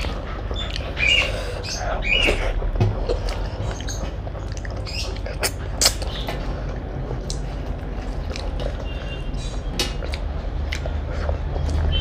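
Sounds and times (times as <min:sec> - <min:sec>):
chewing: 0:00.0 - 0:12.0
steady low hum: 0:00.0 - 0:12.0.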